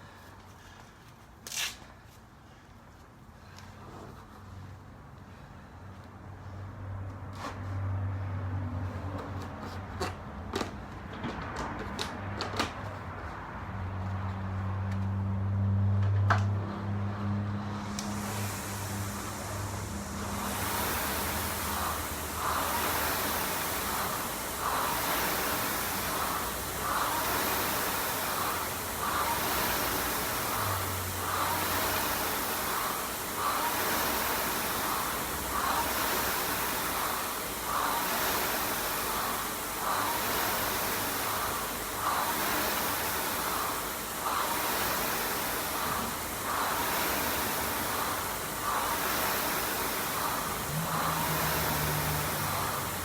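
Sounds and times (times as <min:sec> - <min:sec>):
rowing machine fan whooshing: 0:00.0 - 0:00.8, 0:03.3 - 0:53.0.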